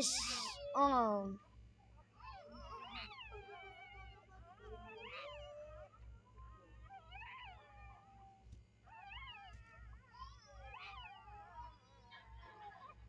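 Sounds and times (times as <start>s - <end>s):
puppies whining: 2.2s - 13.0s.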